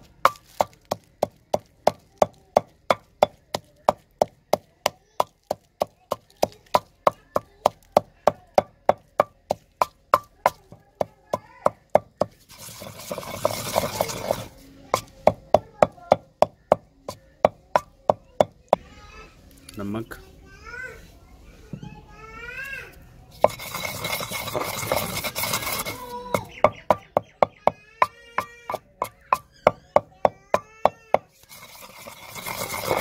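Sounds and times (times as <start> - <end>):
wooden pestle pounding in stone mortar: 0.0 - 18.8, 23.4 - 33.0.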